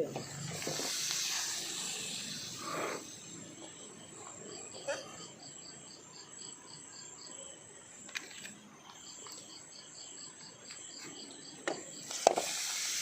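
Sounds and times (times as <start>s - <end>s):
crickets chirping: 0.0s - 13.0s
high insect trill: 0.0s - 13.0s.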